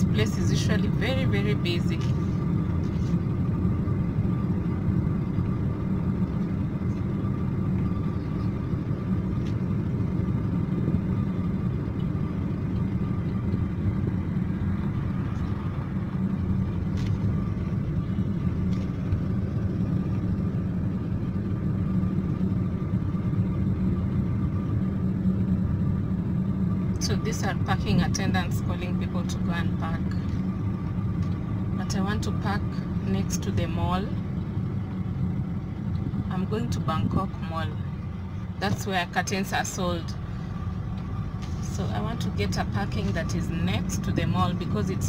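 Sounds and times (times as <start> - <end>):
car engine rumble: 0.0 - 45.0.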